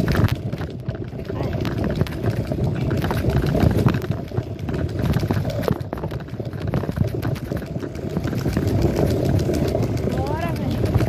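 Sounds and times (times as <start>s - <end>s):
mini bike rumble: 0.0s - 11.0s
wind buffeting microphone: 0.0s - 11.0s.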